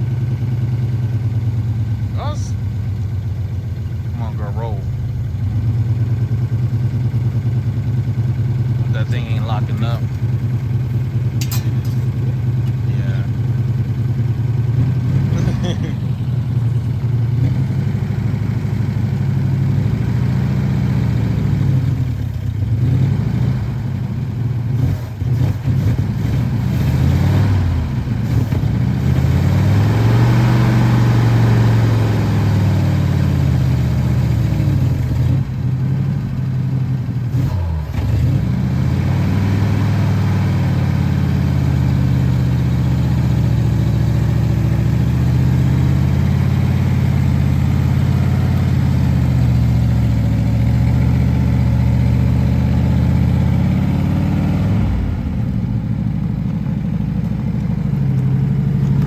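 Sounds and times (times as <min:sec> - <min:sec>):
car engine revving while driving: 0:08.8 - 0:16.1, 0:17.2 - 0:59.0.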